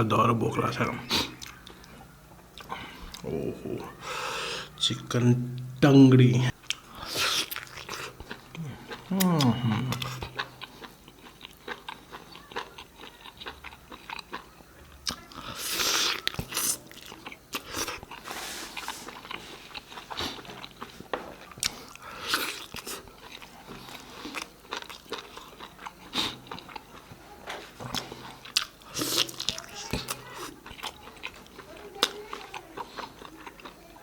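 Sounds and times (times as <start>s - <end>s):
person chewing food: 1.0s - 4.8s, 6.6s - 34.0s.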